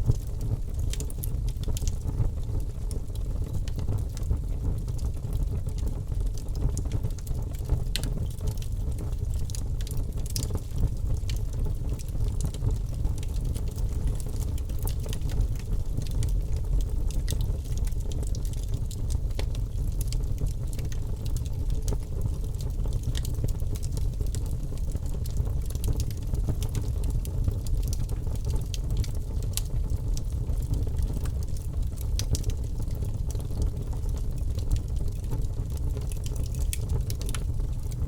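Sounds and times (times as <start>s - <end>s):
fire crackling and popping: 0.0s - 38.0s
low rumble of fire: 0.0s - 38.0s.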